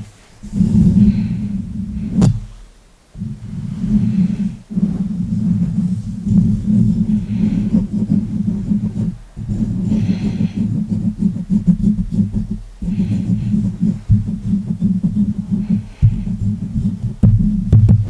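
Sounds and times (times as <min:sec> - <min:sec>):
hands rubbing on microphone: 0:00.0 - 0:18.0.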